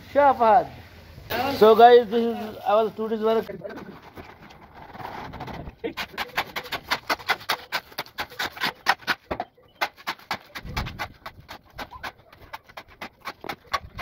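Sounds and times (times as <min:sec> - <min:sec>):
shovel scraping on concrete: 0:01.3 - 0:14.0.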